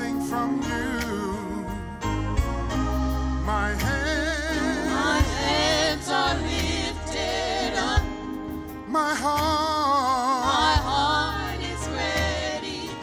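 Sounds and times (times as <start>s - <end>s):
gospel band playing: 0.0s - 13.0s.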